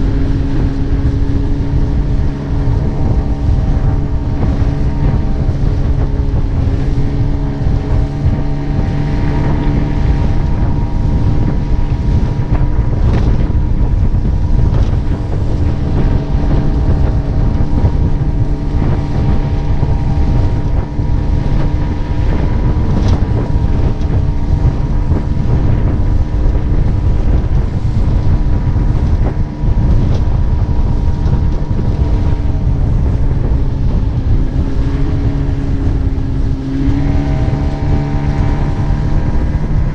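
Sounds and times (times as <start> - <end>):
outboard motor running: 0.0 - 39.9
wind buffeting microphone: 0.0 - 39.9.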